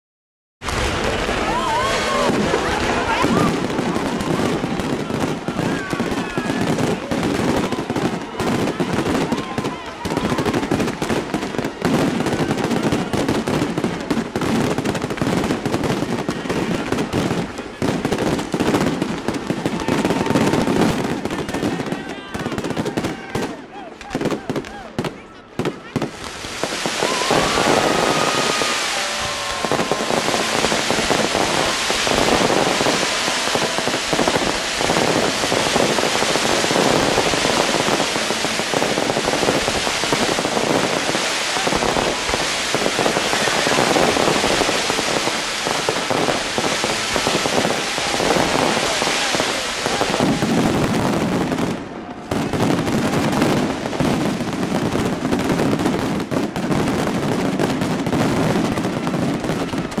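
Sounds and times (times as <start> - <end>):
fireworks crackling and banging: 0.6 - 60.0.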